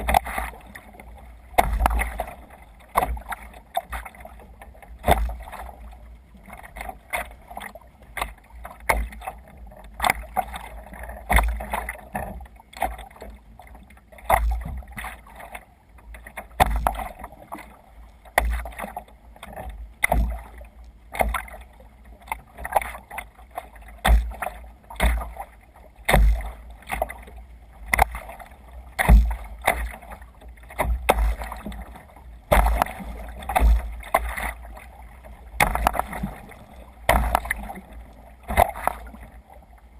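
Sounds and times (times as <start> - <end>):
water splashing around kayak: 0.0 - 39.9.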